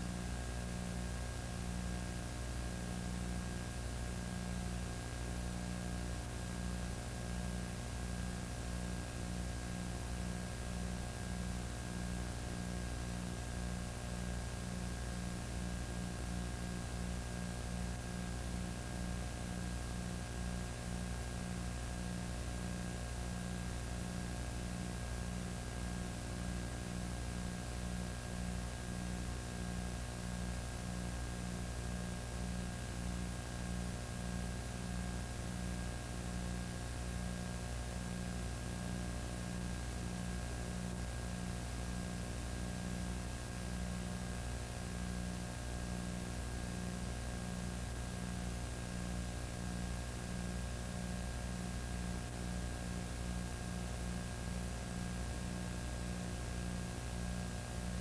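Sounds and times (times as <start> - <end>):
electrical hum and hiss: 0.0 - 58.0.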